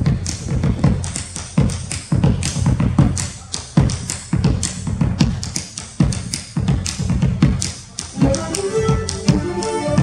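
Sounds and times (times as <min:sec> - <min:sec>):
bass drum played with sticks: 0:00.0 - 0:10.0.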